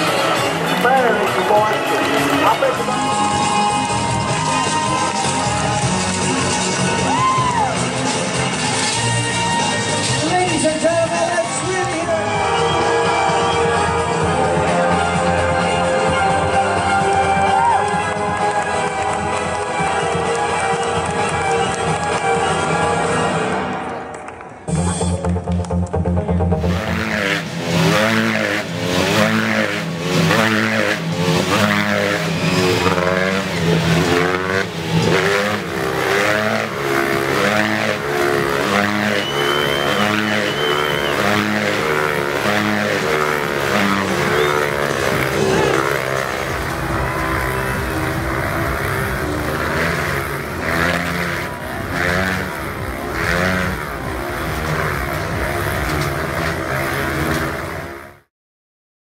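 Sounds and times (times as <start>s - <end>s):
motorcycle engines revving: 0.0s - 25.4s, 26.3s - 58.3s.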